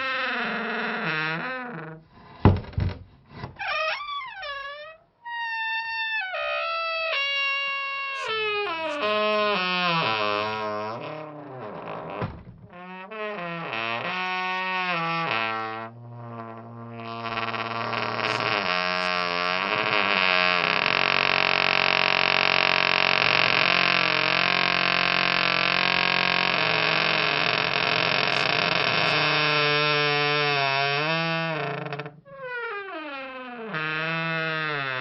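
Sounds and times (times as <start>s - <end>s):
wooden door creaking on hinges: 0.0s - 35.0s.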